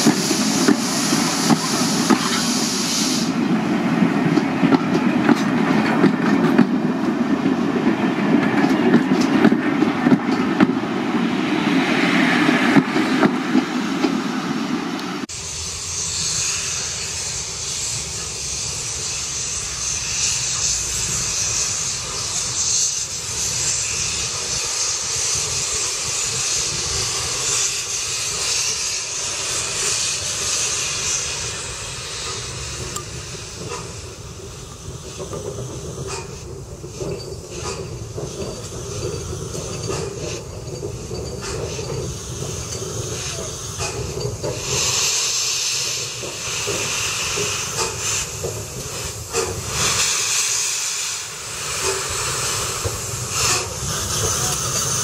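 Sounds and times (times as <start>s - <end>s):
steam hissing: 0.0s - 55.0s
train wheels rumbling: 0.0s - 55.0s.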